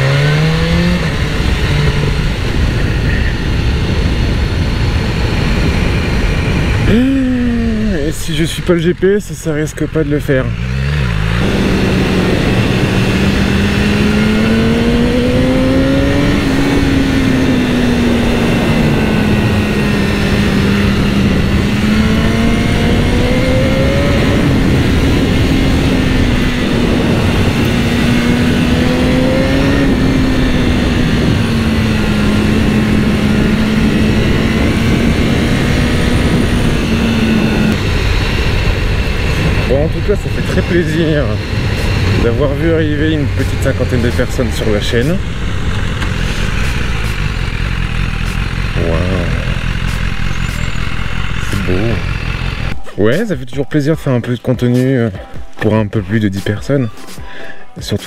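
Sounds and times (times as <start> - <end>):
motorcycle engine cruising: 0.0 - 58.0
wind and road rush: 0.0 - 58.0.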